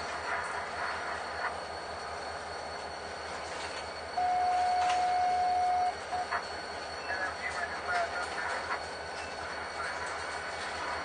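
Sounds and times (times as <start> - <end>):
freight train rumbling: 0.0 - 11.0
train wheel squealing on rail: 0.0 - 11.0.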